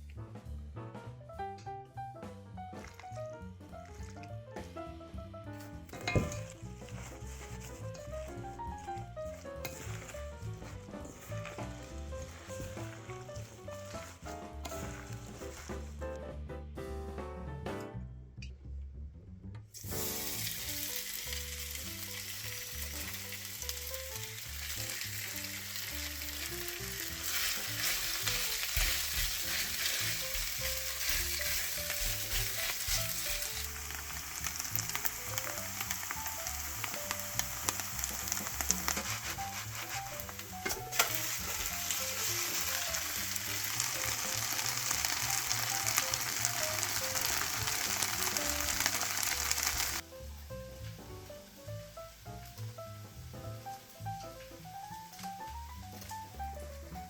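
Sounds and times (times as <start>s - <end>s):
batter sizzling in oil: 5.6s - 16.1s, 19.8s - 57.0s.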